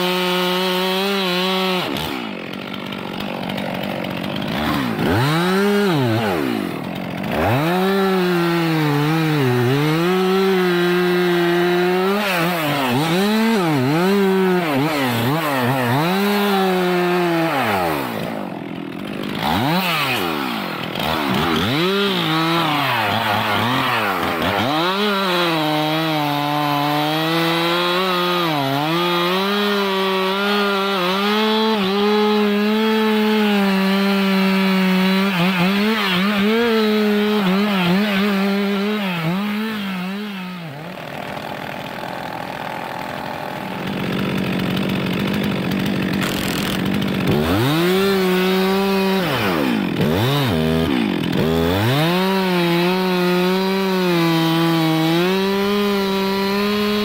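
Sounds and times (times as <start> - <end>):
chainsaw cutting tree trunk: 0.0 - 57.0.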